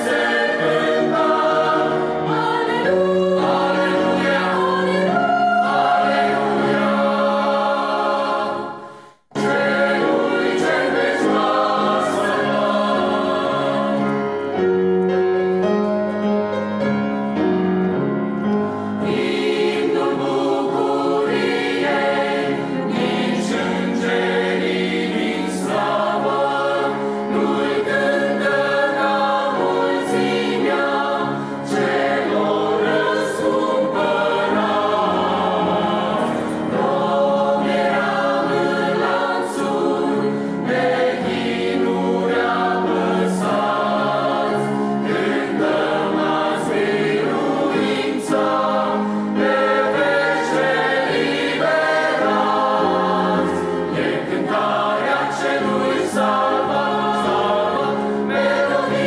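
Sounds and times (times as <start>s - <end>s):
mixed choir singing a hymn: 0.0s - 14.9s, 18.5s - 59.0s.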